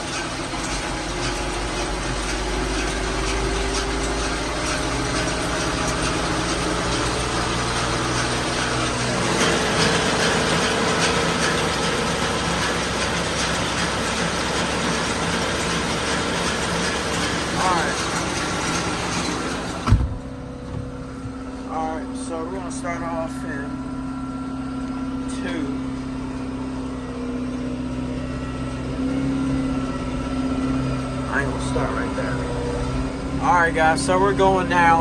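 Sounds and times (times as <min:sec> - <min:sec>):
baler driveline clattering: 0:00.0 - 0:35.0
tractor engine revving: 0:00.0 - 0:35.0.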